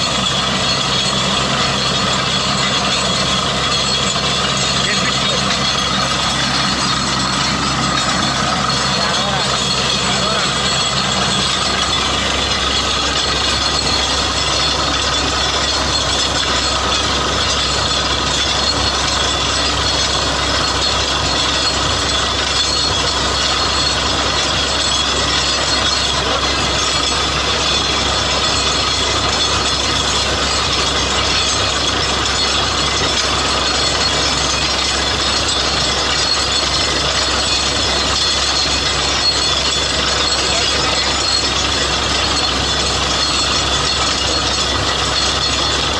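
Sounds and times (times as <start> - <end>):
drilling rig running: 0.0 - 45.9.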